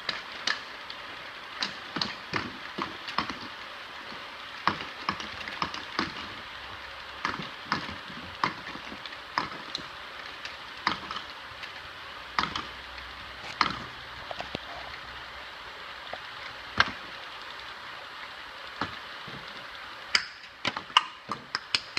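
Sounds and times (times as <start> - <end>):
conveyor hiss: 0.0 - 21.9.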